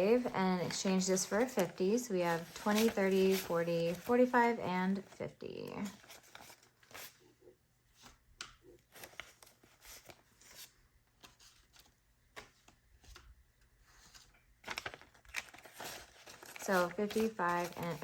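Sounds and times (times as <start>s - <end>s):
paper rustling: 0.0s - 7.3s, 7.9s - 18.0s.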